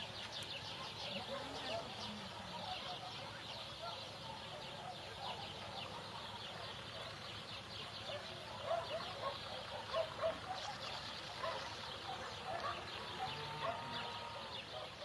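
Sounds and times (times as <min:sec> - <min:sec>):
chorus of birds chirping: 0:00.0 - 0:15.0.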